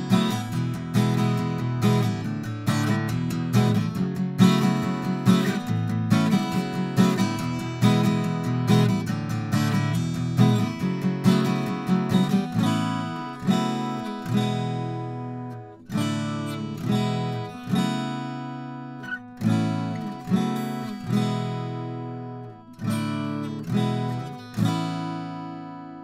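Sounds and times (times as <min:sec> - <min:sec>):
acoustic guitar strummed chords: 0:00.0 - 0:26.0.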